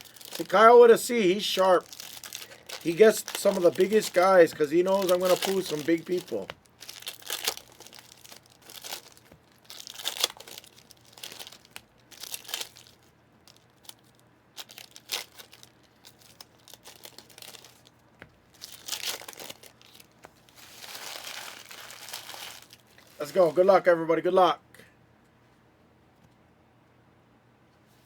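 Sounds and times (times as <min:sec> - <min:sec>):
card packaging crinkling and tearing: 0:00.0 - 0:23.7.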